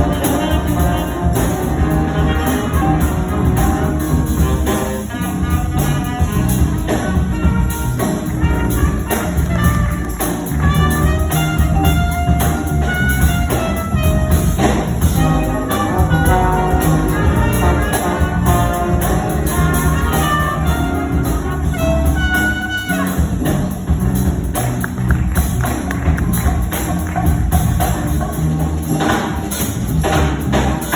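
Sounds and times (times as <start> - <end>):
jazz big band playing: 0.0 - 30.9.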